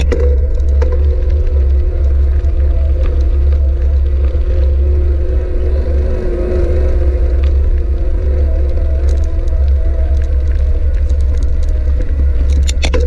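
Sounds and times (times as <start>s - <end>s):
tyres clicking on gravel: 0.0s - 13.0s
wind rumble on microphone: 0.0s - 13.0s.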